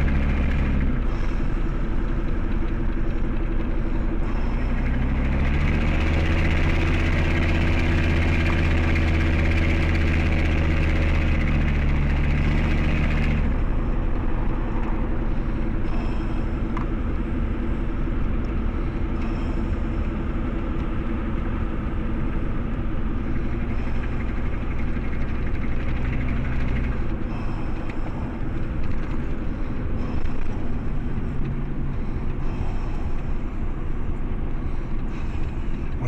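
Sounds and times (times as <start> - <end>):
motor vehicle rumbling: 0.0 - 36.0.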